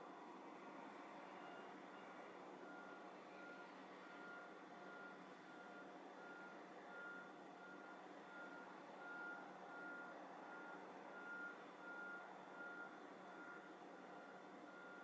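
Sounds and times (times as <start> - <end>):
faint electronic beeping: 1.2 - 15.0.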